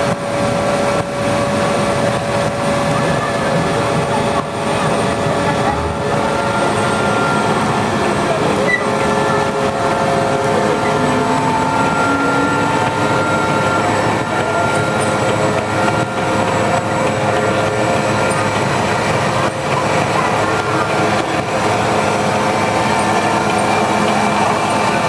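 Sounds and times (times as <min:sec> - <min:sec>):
clatter of steel tracks: 0:00.0 - 0:25.0
tank engine whining: 0:00.0 - 0:25.0.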